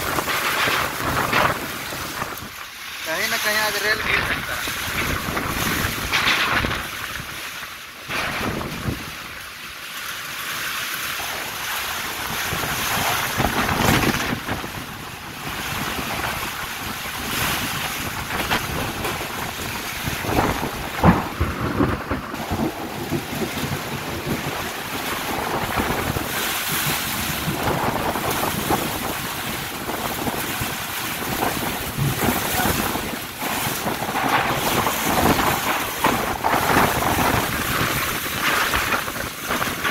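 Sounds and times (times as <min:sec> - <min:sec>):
storm wind gusting on microphone: 0:00.0 - 0:09.4, 0:11.3 - 0:39.9
driving rain: 0:00.0 - 0:39.9.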